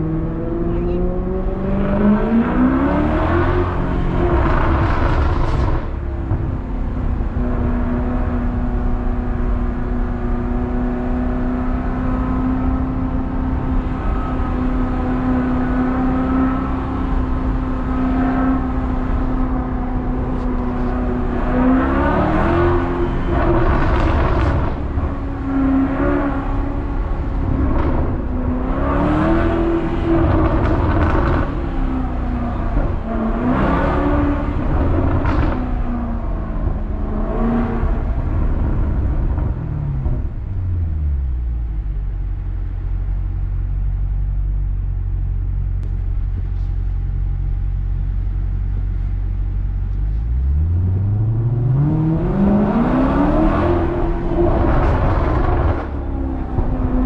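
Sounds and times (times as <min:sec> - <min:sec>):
loud car exhaust droning: 0:00.0 - 0:57.0.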